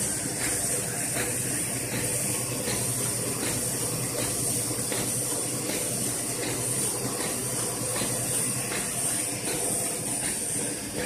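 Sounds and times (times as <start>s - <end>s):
printing press clatter and hiss: 0.0s - 11.0s
regular mechanical knock: 0.4s - 10.6s.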